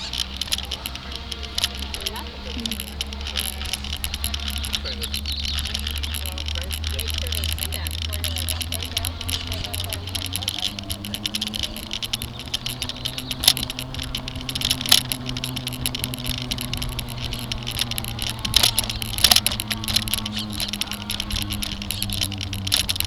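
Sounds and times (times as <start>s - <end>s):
bicycle rattling on bumpy sidewalk: 0.0s - 23.0s
steady low hum: 0.0s - 23.0s.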